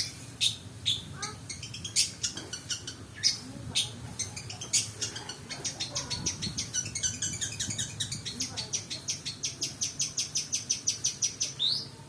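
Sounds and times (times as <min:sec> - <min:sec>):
bird chattering song: 0:00.0 - 0:12.0.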